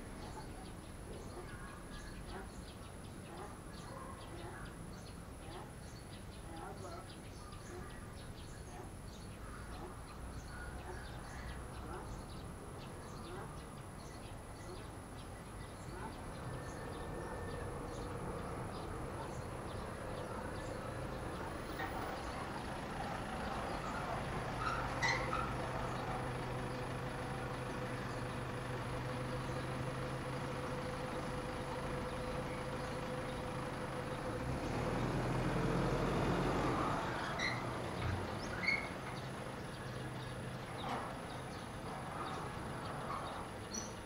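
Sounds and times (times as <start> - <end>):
vehicle engine hum: 0.0 - 44.0.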